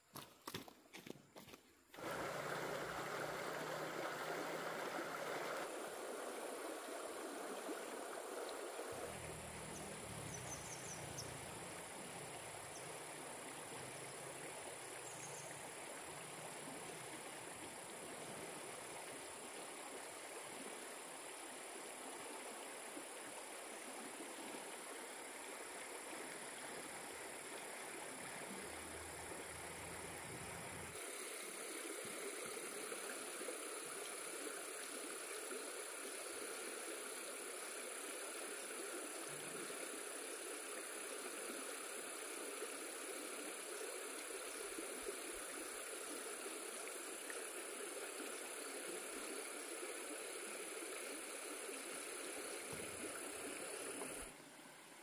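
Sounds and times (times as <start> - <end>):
insects droning: 0.0 - 55.0
stream water rushing: 2.0 - 55.0.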